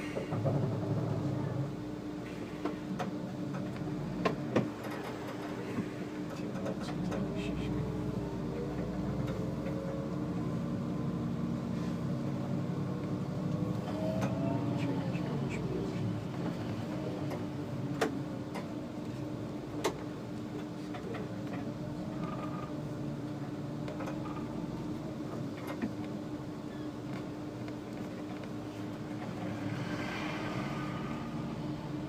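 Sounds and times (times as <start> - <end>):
bus engine hum: 0.0 - 32.0.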